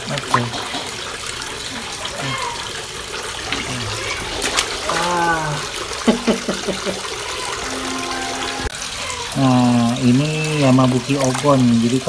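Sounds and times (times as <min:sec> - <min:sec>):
running and splashing water: 0:00.0 - 0:12.0.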